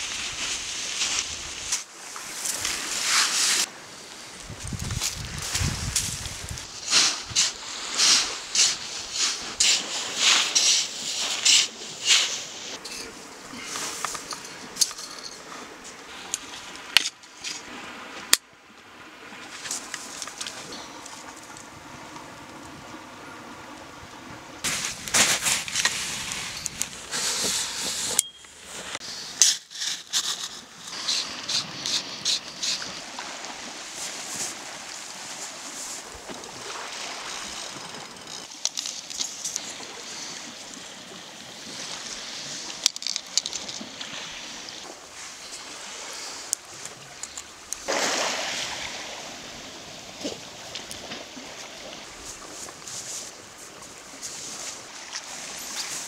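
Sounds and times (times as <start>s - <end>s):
rush of surf: 0.0s - 14.9s, 15.6s - 29.4s, 30.1s - 38.5s, 39.5s - 56.0s
small waves washing on a beach: 0.0s - 56.0s.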